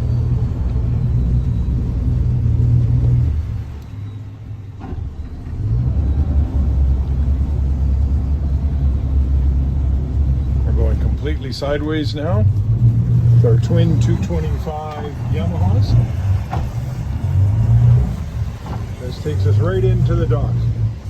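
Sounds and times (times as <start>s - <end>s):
outboard engines rumbling: 0.0s - 21.0s.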